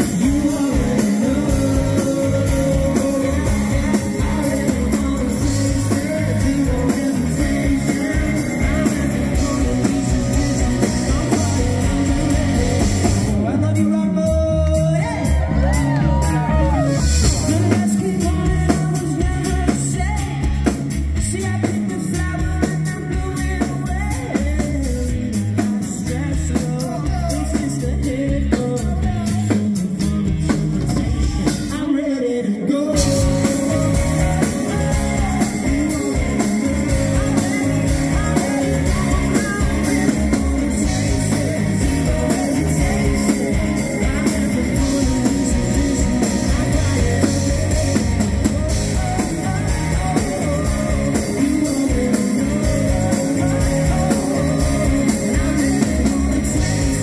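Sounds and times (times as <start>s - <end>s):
live rock band playing: 0.0s - 57.0s
male lead vocal: 0.0s - 57.0s.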